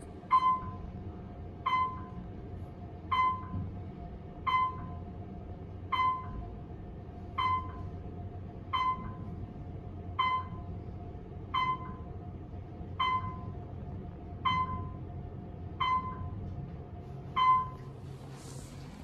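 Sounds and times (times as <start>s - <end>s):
elevator hum and rumble: 0.0s - 19.0s.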